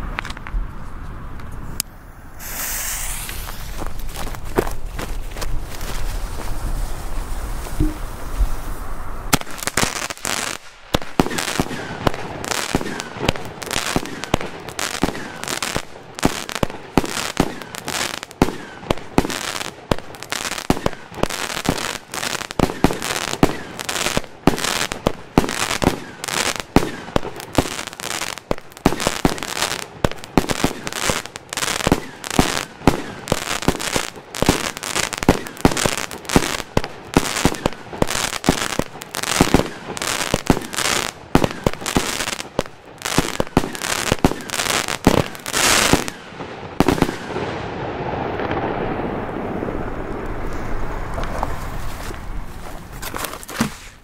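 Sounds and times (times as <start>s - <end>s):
fireworks firing and bursting: 2.0s - 51.8s.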